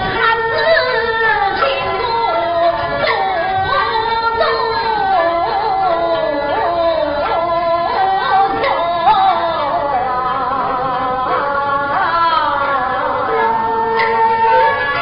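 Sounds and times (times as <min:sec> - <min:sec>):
person singing opera aria: 0:00.0 - 0:15.0.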